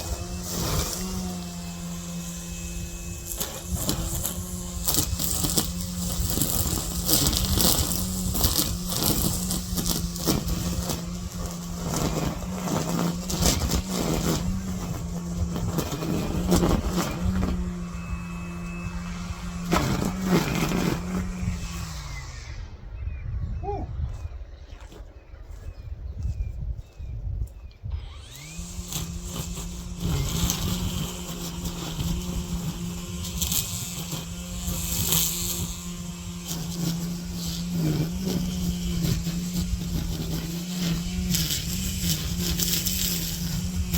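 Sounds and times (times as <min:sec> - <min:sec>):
trimmer line striking weeds: 0:00.0 - 0:22.6, 0:27.9 - 0:43.9
string trimmer running: 0:00.0 - 0:23.0, 0:27.9 - 0:43.9.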